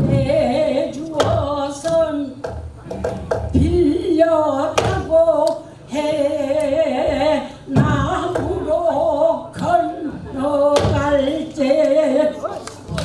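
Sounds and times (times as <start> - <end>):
woman singing with vibrato: 0.0 - 2.4, 3.5 - 13.0.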